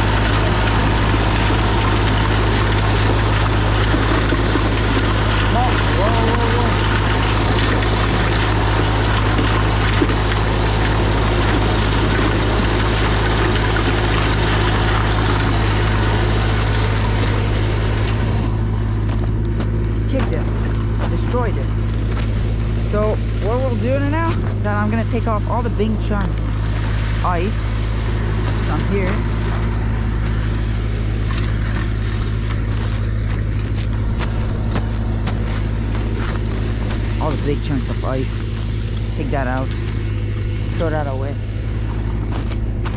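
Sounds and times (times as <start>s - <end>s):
snowblower engine drone: 0.0s - 42.9s.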